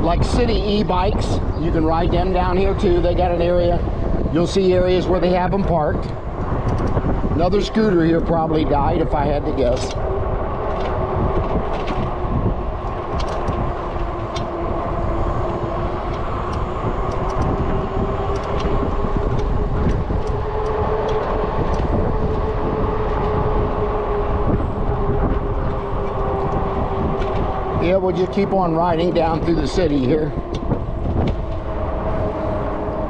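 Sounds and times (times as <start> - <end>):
bike clicks and rattles: 0.0 - 33.0
tyres rumbling: 0.0 - 33.0
wind on microphone: 0.0 - 33.0.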